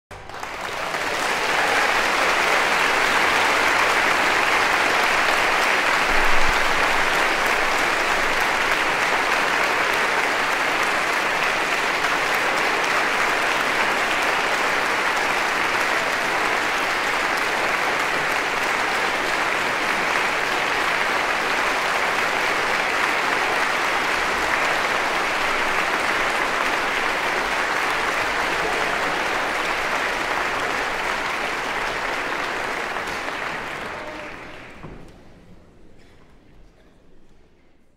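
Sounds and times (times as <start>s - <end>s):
crowd applauding: 0.1s - 35.4s.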